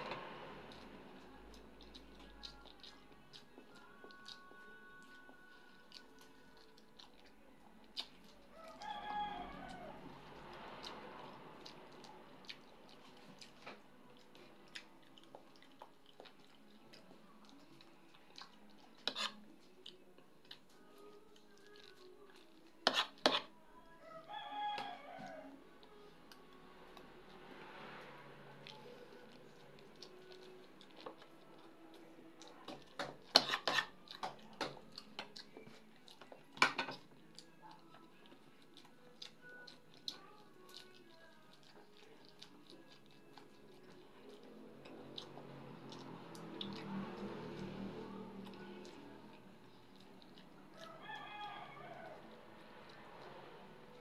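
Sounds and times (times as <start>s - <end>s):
soft chewing: 0.0s - 54.0s.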